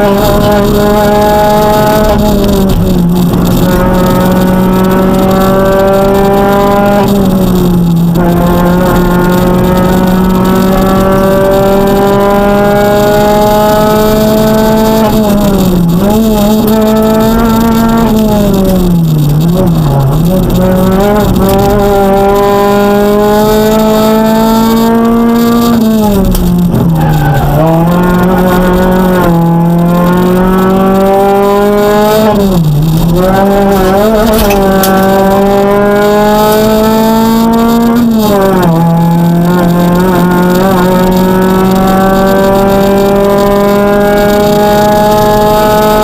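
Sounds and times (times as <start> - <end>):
rally car engine from cockpit: 0.0 - 46.0.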